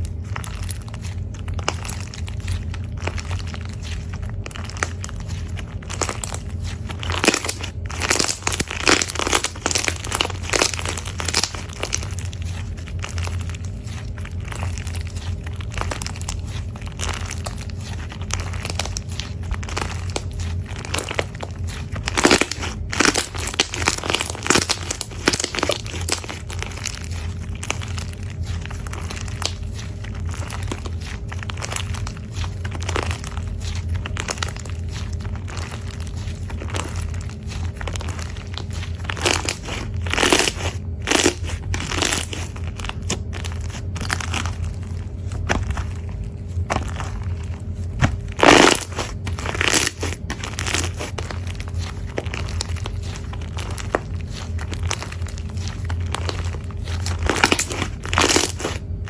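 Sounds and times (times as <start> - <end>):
low hum: 0.0 - 59.0
slime squishing and crackling: 0.0 - 59.0.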